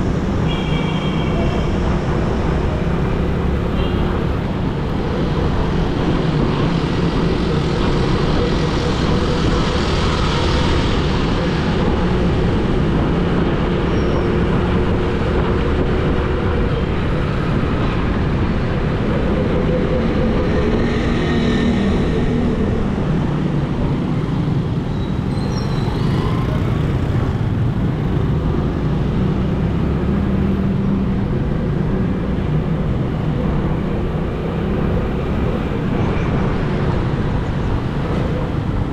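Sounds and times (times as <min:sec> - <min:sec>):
road traffic rumble: 0:00.0 - 0:38.9.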